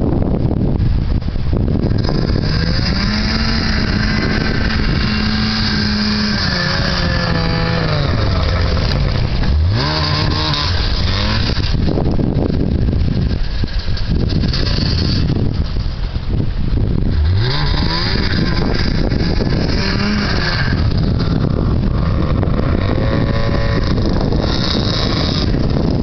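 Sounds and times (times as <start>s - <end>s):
wind noise on microphone: 0.0s - 26.0s
snowmobile engine revving: 1.8s - 15.9s, 16.9s - 26.0s.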